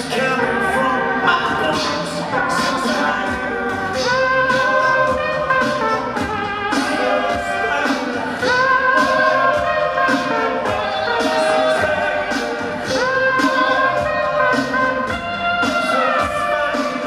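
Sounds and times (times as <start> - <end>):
person singing: 0.0 - 17.0
steady drum beat: 0.0 - 17.0.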